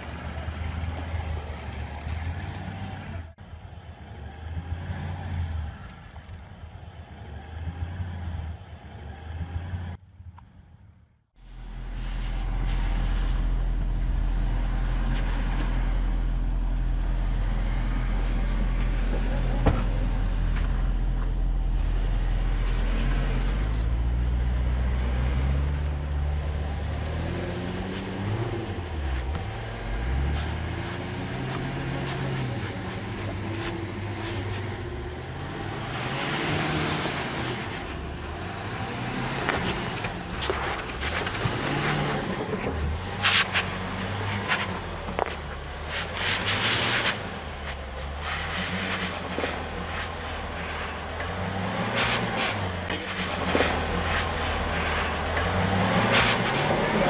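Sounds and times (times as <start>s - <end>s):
suv engine revving: 0.0s - 10.0s, 11.3s - 57.0s.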